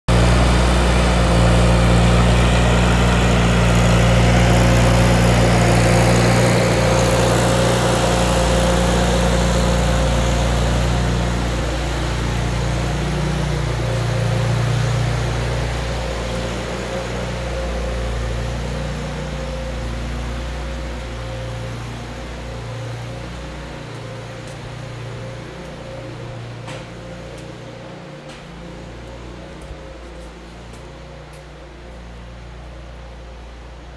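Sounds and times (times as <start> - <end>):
generator engine running: 0.1 - 33.9.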